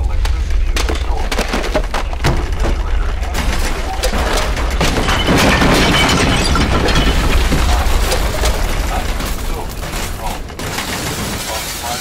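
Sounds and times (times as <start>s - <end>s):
crashing breaking blocks: 0.8s - 12.0s.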